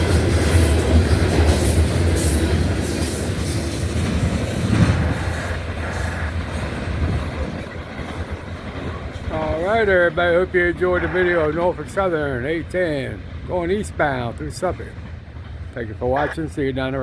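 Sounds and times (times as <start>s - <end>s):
wheels clicking over rail joints: 0.0s - 16.0s
freight train rolling on rails: 0.0s - 17.0s.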